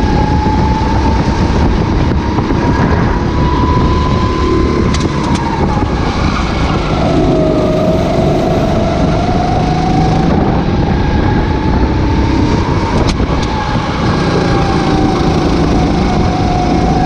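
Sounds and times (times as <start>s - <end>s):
kart engine at speed: 0.0s - 17.0s
low rumble of wind: 0.0s - 17.0s.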